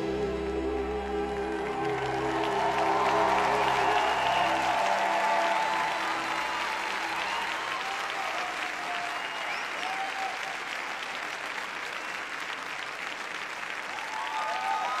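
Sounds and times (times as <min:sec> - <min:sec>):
audience applauding: 0:01.4 - 0:15.0.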